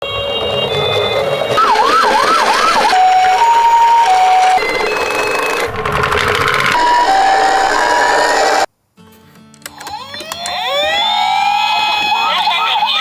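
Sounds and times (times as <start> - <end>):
ambulance siren: 0.0 - 8.7, 9.9 - 13.0.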